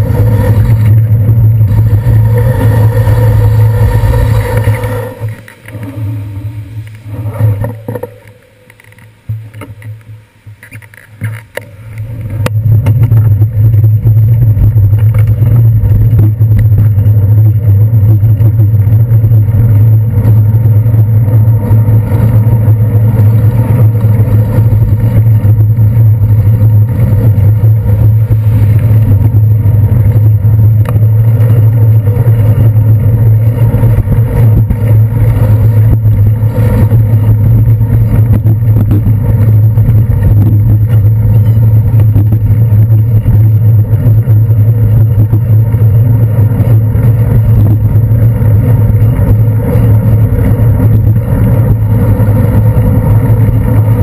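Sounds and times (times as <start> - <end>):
low rumble of bicycle ride: 0.0 - 54.0.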